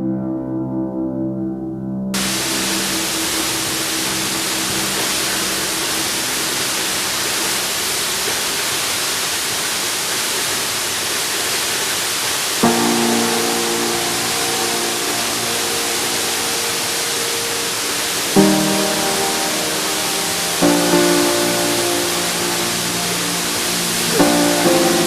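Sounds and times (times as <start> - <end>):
steady rushing noise: 2.2 - 25.0.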